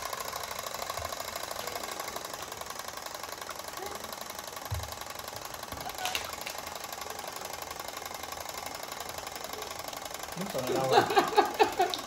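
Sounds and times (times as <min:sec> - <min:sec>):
wind-up timer ticking fast: 0:00.0 - 0:12.0.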